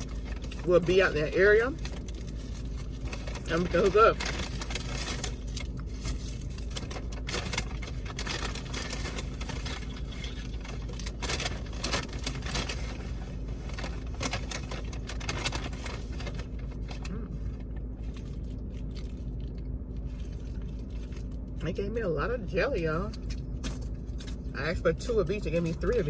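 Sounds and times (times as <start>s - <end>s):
paper bag rustling and crackling: 0.0s - 21.4s
steady low hum: 0.0s - 26.0s.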